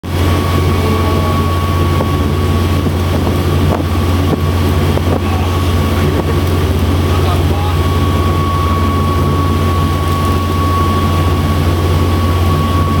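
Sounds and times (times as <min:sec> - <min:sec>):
boat engine droning: 0:00.0 - 0:13.0
thin steady whine: 0:00.0 - 0:13.0
wind buffeting microphone: 0:00.0 - 0:13.0.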